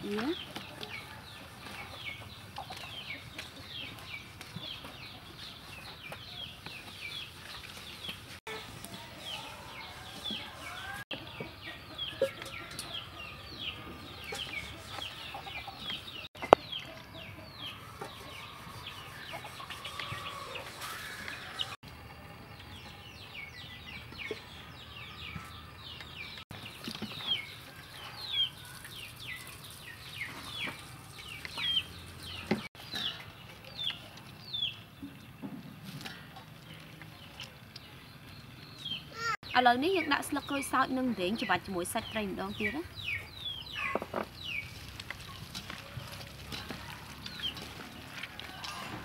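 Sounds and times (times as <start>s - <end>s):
birds peeping: 0.0s - 21.8s, 22.5s - 49.0s.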